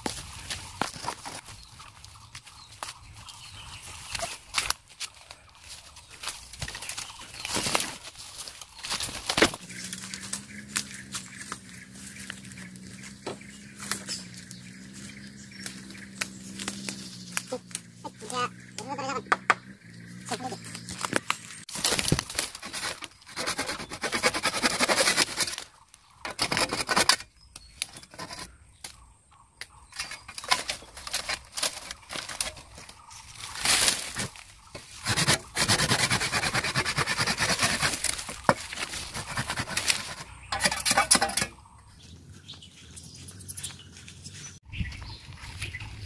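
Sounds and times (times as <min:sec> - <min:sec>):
dry leaves rustling: 0:00.0 - 0:19.1, 0:20.3 - 0:26.1, 0:29.9 - 0:46.0.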